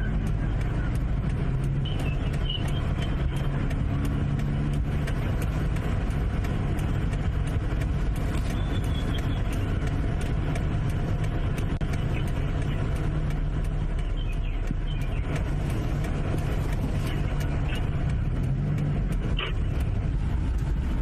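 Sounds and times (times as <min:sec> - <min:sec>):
car engine idling: 0:00.0 - 0:21.0
street noise: 0:00.0 - 0:21.0.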